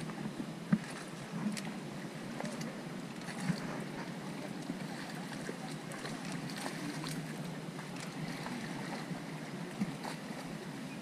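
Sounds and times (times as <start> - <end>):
light wind: 0.0 - 11.0
water lapping and splashing: 0.0 - 11.0.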